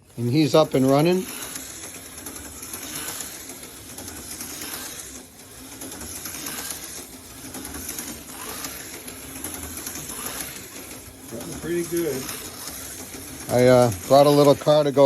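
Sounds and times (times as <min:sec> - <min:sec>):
slot car motor whining: 0:00.0 - 0:15.0.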